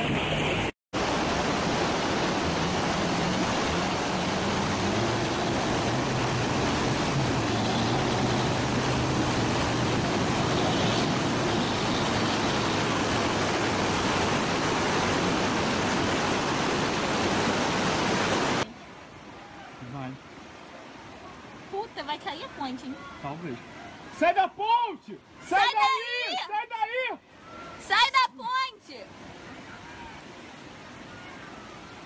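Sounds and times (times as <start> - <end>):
river rushing over rocks: 0.0 - 24.3, 28.9 - 32.0.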